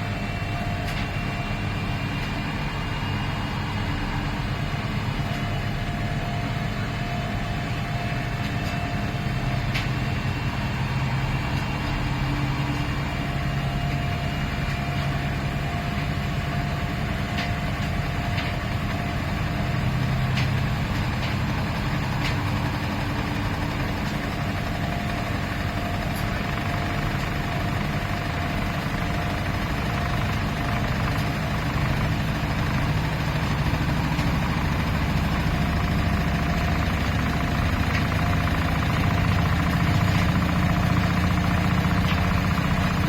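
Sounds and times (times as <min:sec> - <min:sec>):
washing machine humming: 0:00.0 - 0:43.0.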